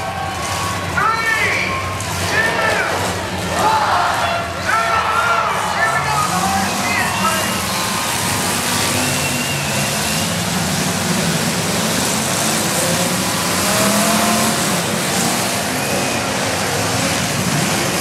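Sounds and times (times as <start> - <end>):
many car engines revving: 0.0 - 18.0.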